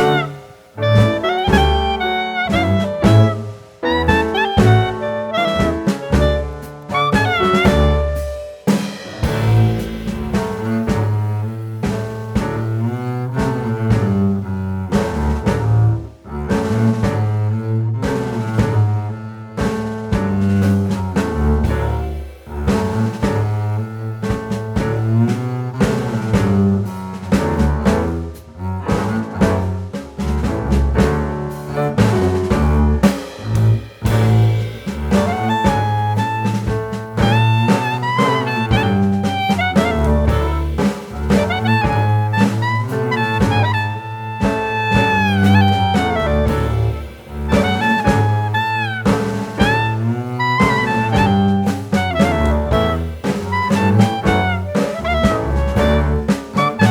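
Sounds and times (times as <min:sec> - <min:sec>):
instrumental music with bass and beat: 0:00.0 - 0:56.9.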